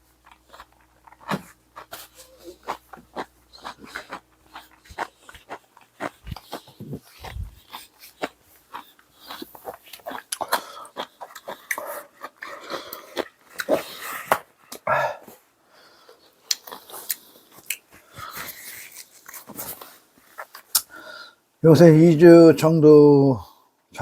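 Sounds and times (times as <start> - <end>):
chewing: 0.1 - 14.8, 16.0 - 20.9.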